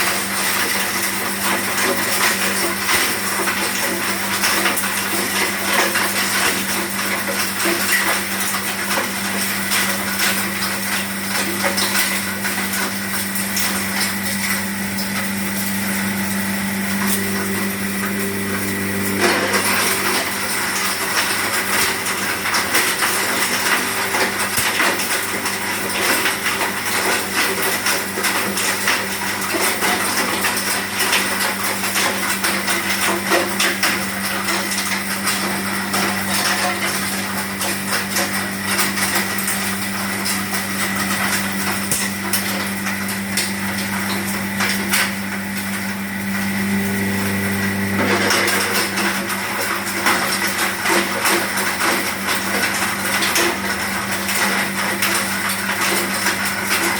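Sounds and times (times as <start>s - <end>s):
motor hum: 0.0s - 56.9s.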